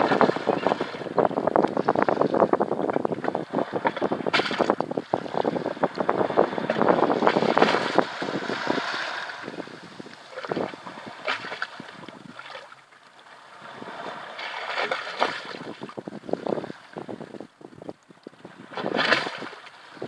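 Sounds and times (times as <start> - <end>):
water gurgling and sloshing: 0.0 - 17.6, 18.4 - 20.0.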